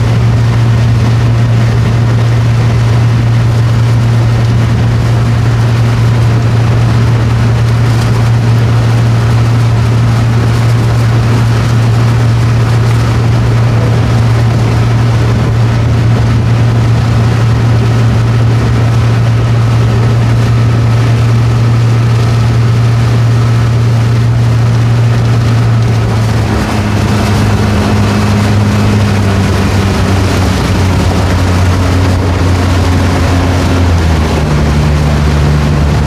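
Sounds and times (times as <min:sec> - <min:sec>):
motorboat engine running: 0:00.0 - 0:36.0.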